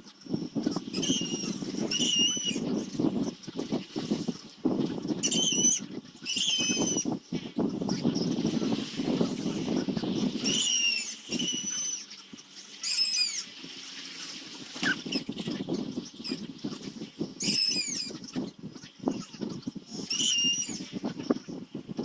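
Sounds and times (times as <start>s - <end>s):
small bird chirping: 0.0s - 22.0s.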